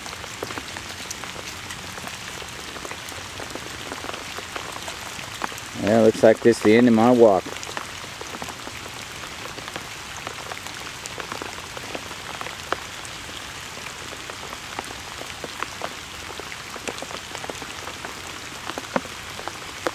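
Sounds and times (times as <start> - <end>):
raindrops ticking close by: 0.0 - 19.9
steady rain hiss: 0.0 - 19.9.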